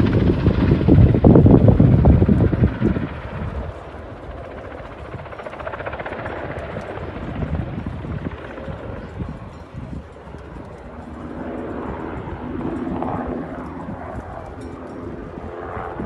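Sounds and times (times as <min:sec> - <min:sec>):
helicopter rotor blades chopping: 0:00.0 - 0:16.0.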